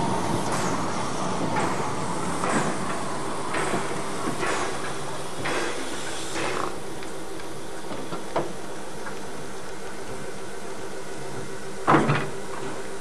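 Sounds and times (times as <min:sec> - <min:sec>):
steady steam hiss and hum: 0:00.0 - 0:13.0
steam locomotive exhaust chuffs: 0:00.0 - 0:13.0.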